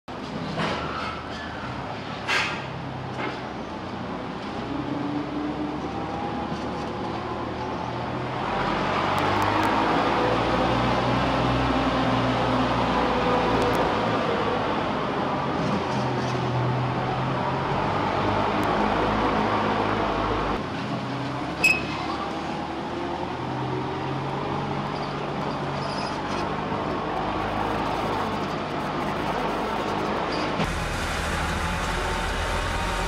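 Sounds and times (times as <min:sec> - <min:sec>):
urban traffic engines humming: 0:00.1 - 0:33.0.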